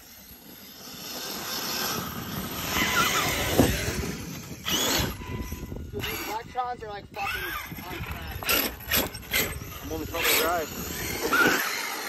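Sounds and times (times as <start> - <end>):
rc truck motor whine: 0.0 - 12.0.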